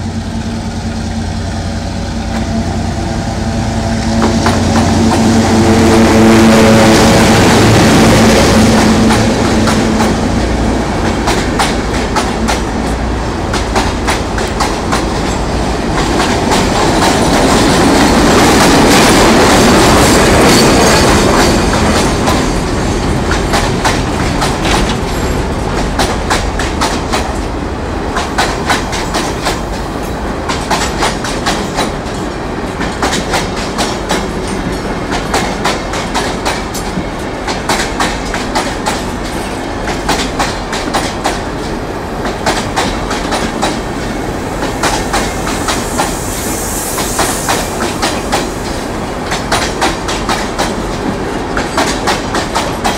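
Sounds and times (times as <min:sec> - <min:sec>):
steady train rumble: 0:00.0 - 0:52.9.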